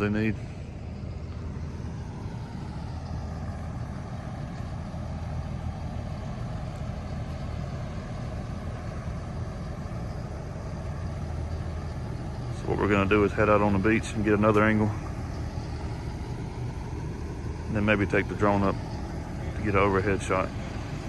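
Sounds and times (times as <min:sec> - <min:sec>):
heavy machinery engines rumbling: 0:00.0 - 0:21.0.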